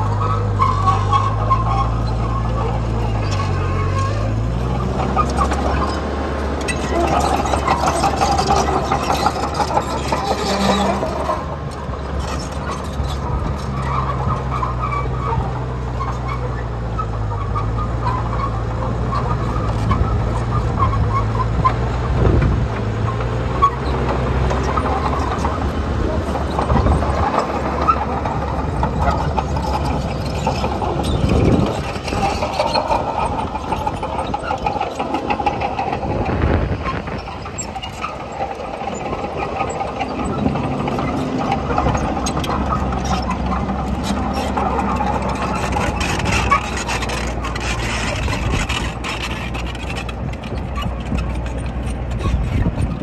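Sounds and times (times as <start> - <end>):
bulldozer diesel engine: 0.0 - 53.0
track squeaks: 0.0 - 53.0.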